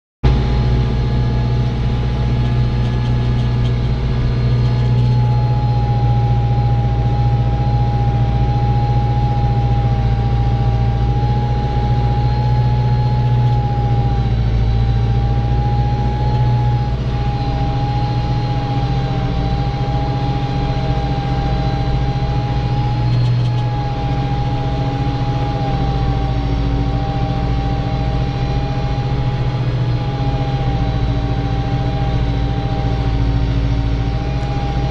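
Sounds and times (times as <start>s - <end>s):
steady whine: 0.2s - 34.9s
tractor diesel engine running: 0.2s - 34.9s.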